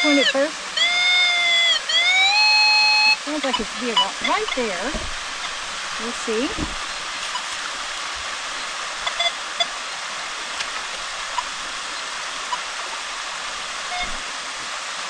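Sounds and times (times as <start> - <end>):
waterfall and creek rushing: 0.0 - 15.0.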